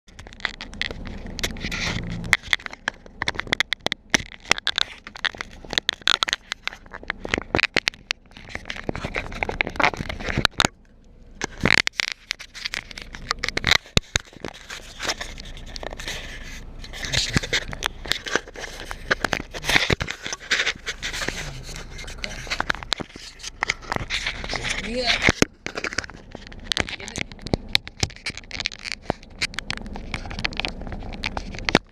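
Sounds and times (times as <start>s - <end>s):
irregular crackling and clicking: 0.1s - 31.9s
low steady hum: 0.1s - 31.9s.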